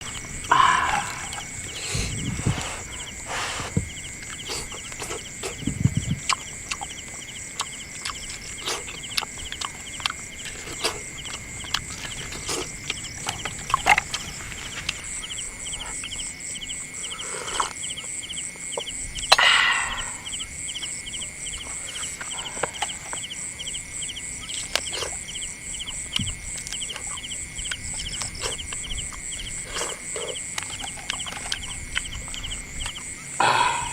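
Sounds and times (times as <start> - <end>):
pulsing high-pitched animal calls: 0.0 - 8.3, 10.7 - 33.9.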